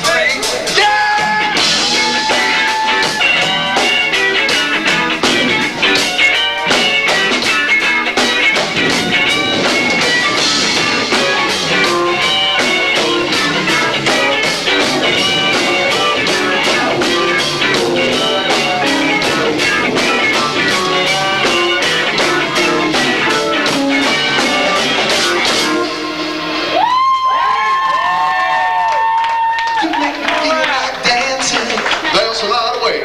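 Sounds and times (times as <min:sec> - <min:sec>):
live rock band playing: 0:00.0 - 0:27.1.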